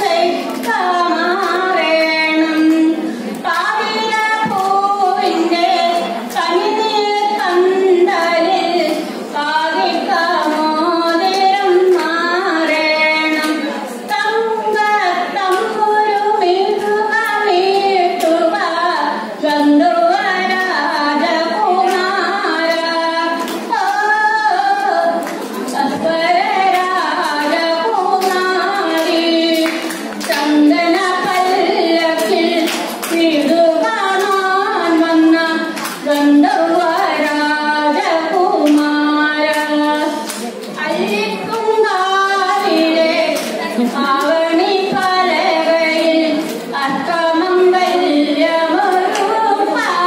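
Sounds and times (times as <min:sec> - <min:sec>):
woman singing into microphone: 0:00.0 - 0:50.0.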